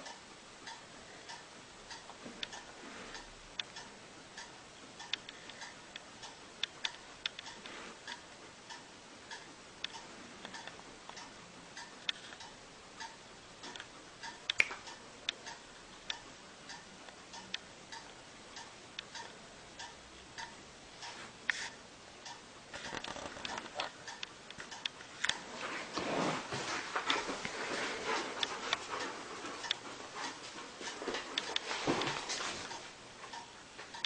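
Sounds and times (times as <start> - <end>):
ticking clicks: 0.0 - 25.5, 26.9 - 34.0
low hiss: 0.0 - 34.0.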